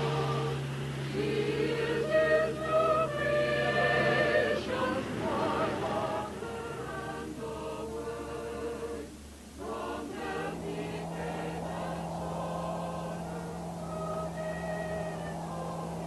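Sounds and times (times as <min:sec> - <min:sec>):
film music with choir: 0:00.0 - 0:16.0
steady low note: 0:00.0 - 0:16.0.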